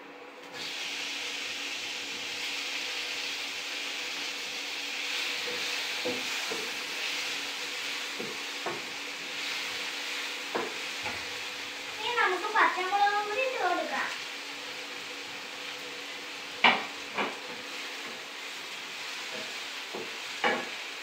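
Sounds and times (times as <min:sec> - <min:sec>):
vegetables sizzling in oil: 0:00.5 - 0:21.0.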